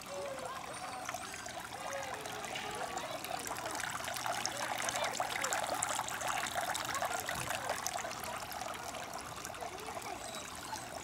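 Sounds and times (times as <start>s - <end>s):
water trickling and babbling: 0.0s - 11.0s.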